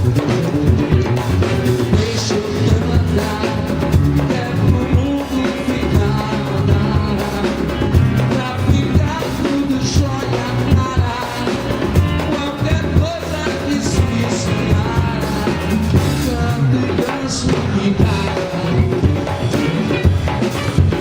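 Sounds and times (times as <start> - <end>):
drum kit beat: 0.0 - 21.0
live band music: 0.0 - 21.0
person singing: 0.2 - 21.0.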